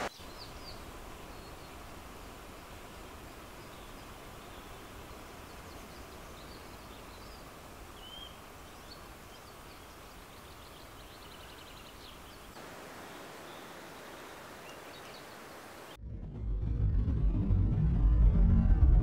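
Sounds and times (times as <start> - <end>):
small birds calling: 0.0 - 16.0
steady background hiss: 0.0 - 16.0.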